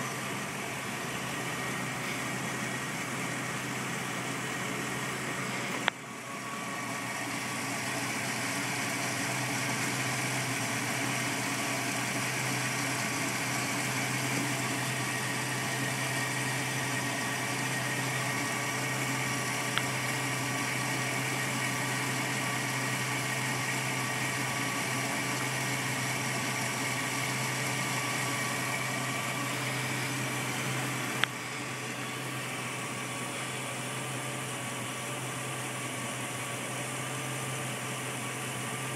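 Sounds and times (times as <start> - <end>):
car engine idling roughly: 0.0 - 38.9.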